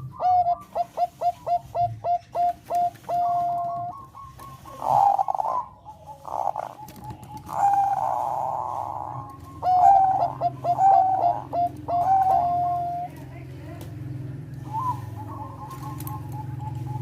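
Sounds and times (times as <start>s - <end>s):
dove cooing: 0.0s - 13.6s, 14.3s - 17.0s.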